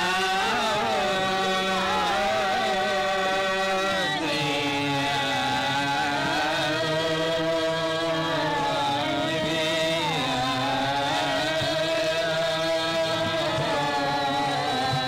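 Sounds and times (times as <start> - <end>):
steady drone: 0.0 - 15.0.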